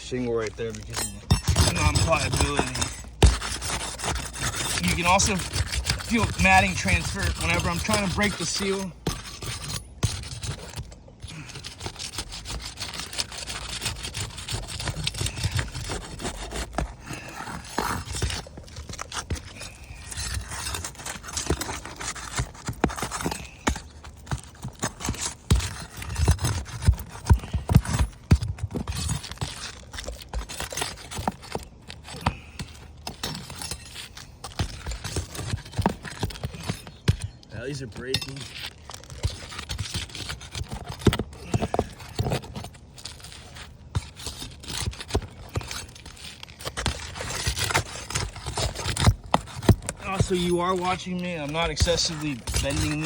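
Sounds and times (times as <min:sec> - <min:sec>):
scraping on roof shingles: 0:00.0 - 0:53.0
shingles cracking and snapping: 0:00.2 - 0:53.0.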